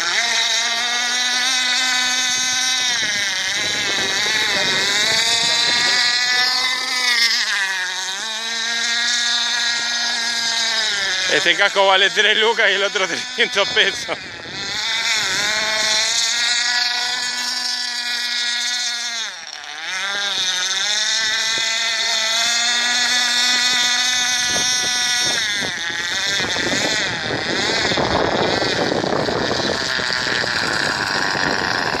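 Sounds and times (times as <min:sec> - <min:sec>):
model boat engine high whine: 0:00.0 - 0:32.0.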